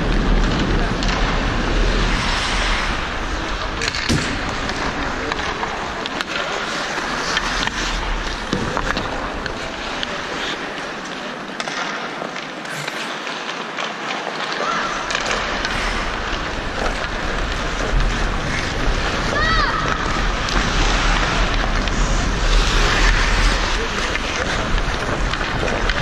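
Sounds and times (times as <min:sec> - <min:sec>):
skates scraping on ice: 0:00.0 - 0:26.0
hockey sticks and puck clacking: 0:00.1 - 0:26.0.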